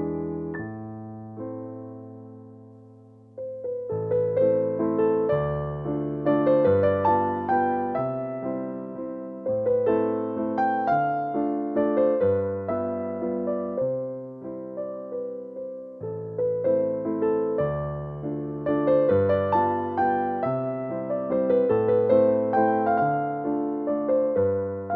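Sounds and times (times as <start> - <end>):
soft slow piano music: 0.0 - 24.9.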